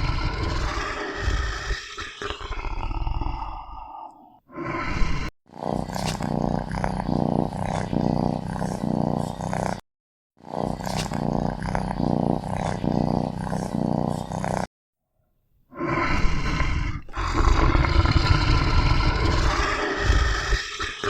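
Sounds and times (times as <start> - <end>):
tiger growling and roaring: 0.0 - 9.8, 10.4 - 14.7, 15.7 - 21.0.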